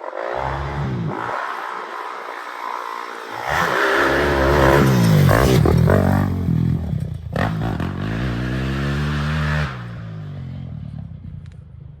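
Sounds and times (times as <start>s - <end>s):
dirt bike engine revving: 0.0s - 10.7s.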